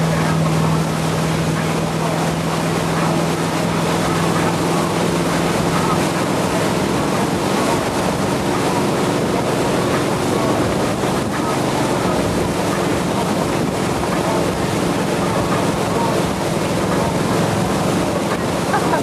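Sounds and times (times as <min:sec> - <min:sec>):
boat engine running: 0:00.0 - 0:19.0
water rushing in wake: 0:00.0 - 0:19.0
wind on microphone: 0:00.0 - 0:19.0.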